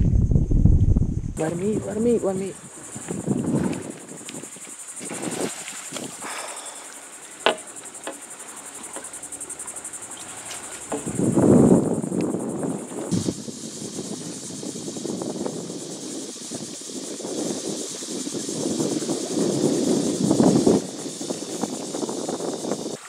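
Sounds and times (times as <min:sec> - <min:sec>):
insects trilling: 0:01.4 - 0:23.0.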